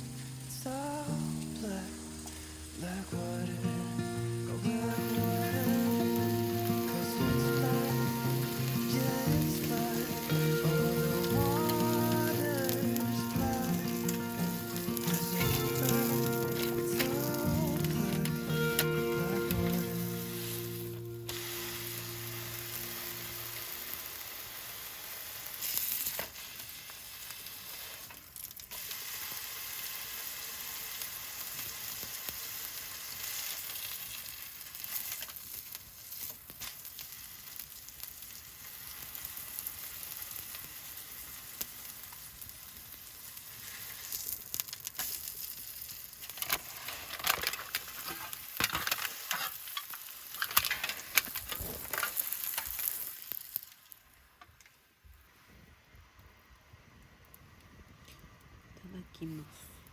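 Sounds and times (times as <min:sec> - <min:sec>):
food sizzling in a pan: 0:00.0 - 0:54.3
oil crackling and spattering: 0:04.9 - 0:54.1.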